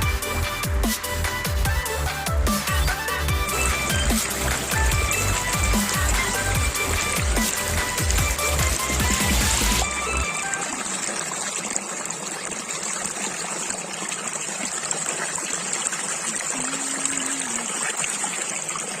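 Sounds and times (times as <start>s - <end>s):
stream water trickling: 2.9s - 19.0s.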